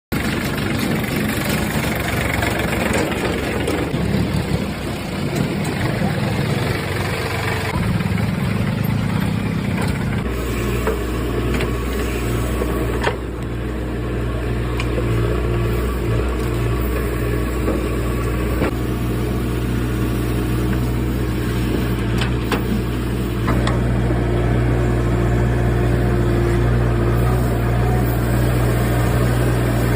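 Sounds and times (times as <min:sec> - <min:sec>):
excavator diesel engine running: 0:00.1 - 0:29.9.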